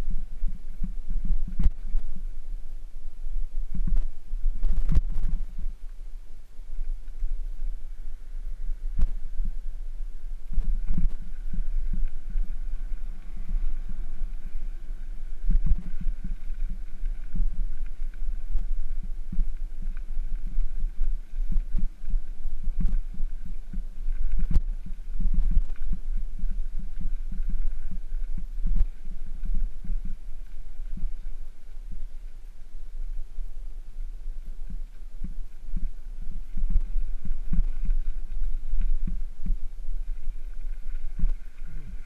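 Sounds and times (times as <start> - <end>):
bicycle tyres rumbling on gravel: 0.0 - 42.0.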